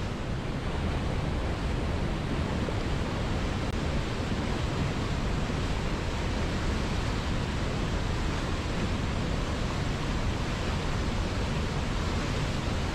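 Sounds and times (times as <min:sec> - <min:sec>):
river water flowing: 0:00.0 - 0:12.9.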